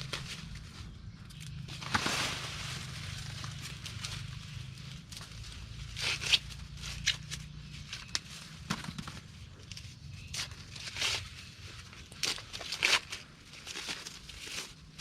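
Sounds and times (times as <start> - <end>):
dry corn leaves rustling: 0.0 - 15.0.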